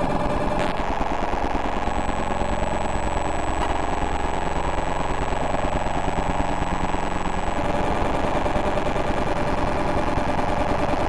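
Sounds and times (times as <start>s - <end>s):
pulsing electronic buzzes: 0.0s - 11.0s.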